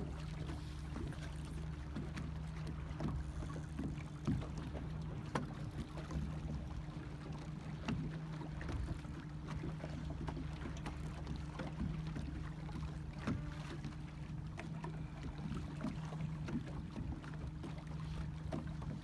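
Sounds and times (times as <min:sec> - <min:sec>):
motorboat engine idling: 0:00.0 - 0:19.0.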